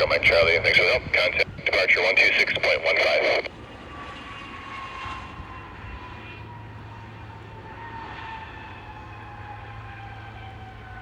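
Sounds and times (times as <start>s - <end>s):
airplane engines passing by: 0.0s - 11.0s.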